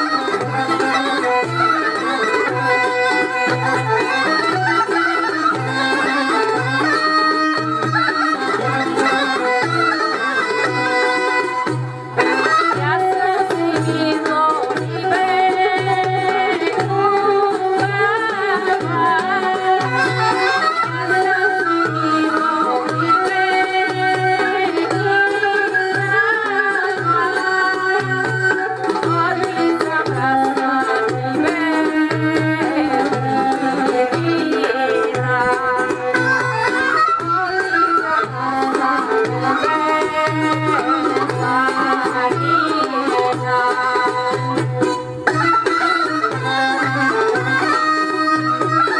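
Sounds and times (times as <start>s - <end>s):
quick ornamented folk melody: 0.0s - 48.9s.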